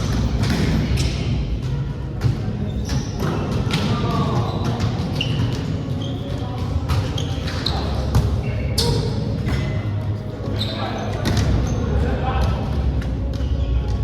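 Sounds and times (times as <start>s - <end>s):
players' voices: 0.1s - 14.0s
sneaker squeaks on floor: 0.6s - 12.0s.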